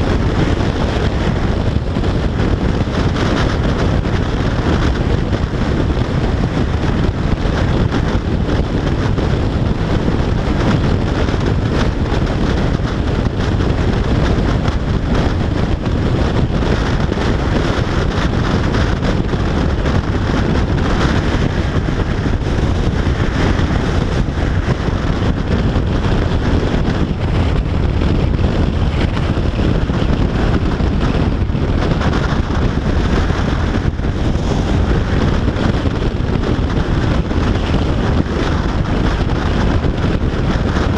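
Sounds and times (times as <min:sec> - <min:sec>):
motorcycle engine: 0:00.0 - 0:40.9
wind buffeting microphone: 0:00.0 - 0:40.9.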